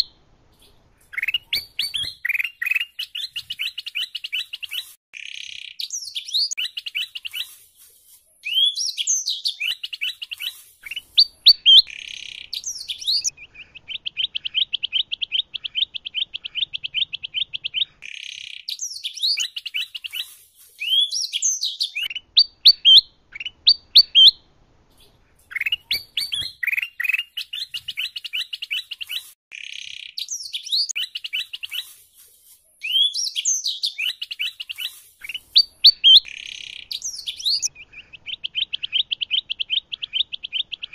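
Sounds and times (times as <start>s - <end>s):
bird trill: 0.0s - 7.6s, 8.4s - 24.4s, 25.0s - 31.9s, 32.8s - 40.9s
bulbul song: 0.0s - 7.8s, 8.4s - 24.4s, 25.5s - 32.2s, 32.8s - 40.9s
canary song: 0.0s - 40.9s.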